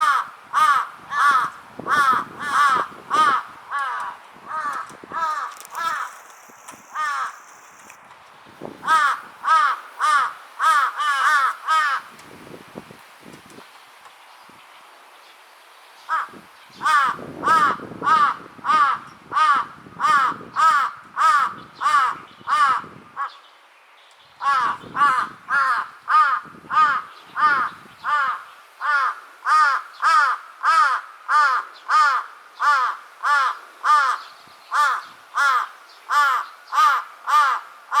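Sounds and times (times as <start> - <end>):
crow cawing: 0.0 - 7.7, 8.8 - 12.1, 16.1 - 23.4, 24.4 - 38.0.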